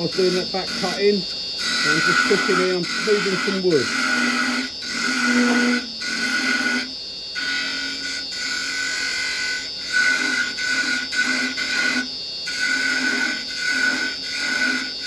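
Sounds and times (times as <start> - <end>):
chisel cutting hiss: 0.0 - 15.0
wood lathe whining: 0.0 - 15.0.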